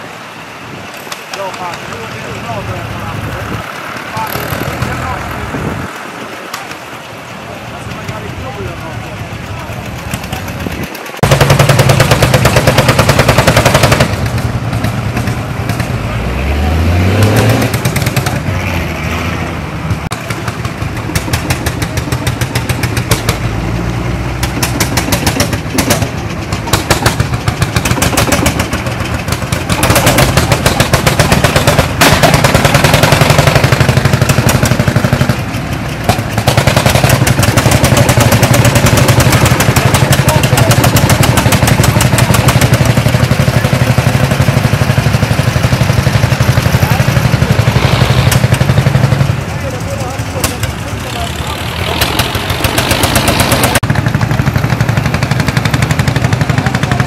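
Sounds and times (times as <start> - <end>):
tractor engine chugging: 0.0 - 16.2, 19.8 - 57.0.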